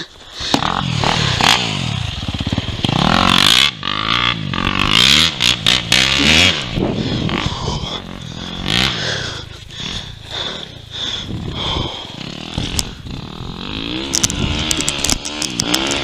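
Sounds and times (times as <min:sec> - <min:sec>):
dirt bike engine revving: 0:00.4 - 0:16.0.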